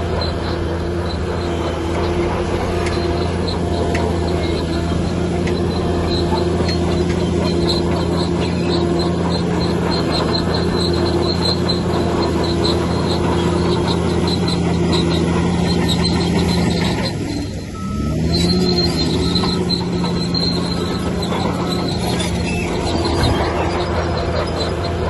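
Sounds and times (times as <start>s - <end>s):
diesel bulldozer engine running: 0.0s - 25.0s
short high squeaks: 0.0s - 25.0s.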